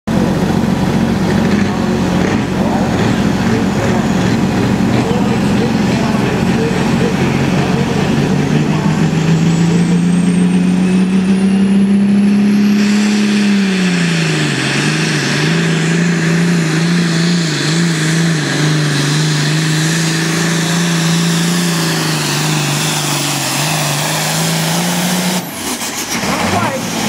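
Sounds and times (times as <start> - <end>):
tractor diesel engine whining: 0.1 - 27.0.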